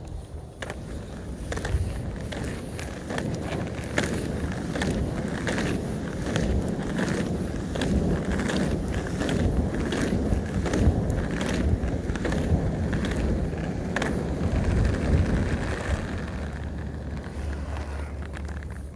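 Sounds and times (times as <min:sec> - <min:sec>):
skate wheels rolling on pavement: 0:00.0 - 0:18.9.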